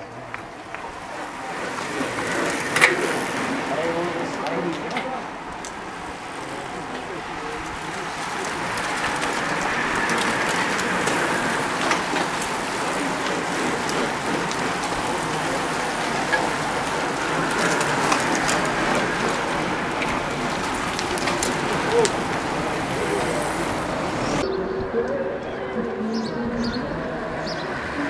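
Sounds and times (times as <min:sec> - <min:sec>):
bicycle tyres hissing on road: 0:00.0 - 0:24.4
bicycle clicks: 0:00.3 - 0:03.7, 0:04.4 - 0:24.4.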